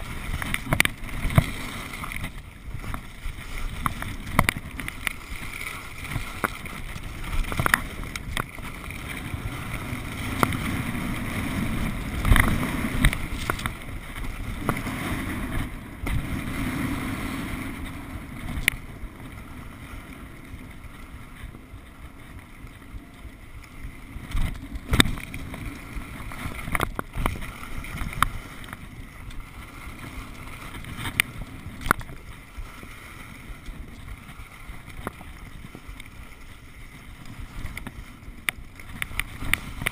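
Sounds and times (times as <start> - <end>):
skis scraping over snow: 0.0 - 39.9
wind on microphone: 0.0 - 39.9.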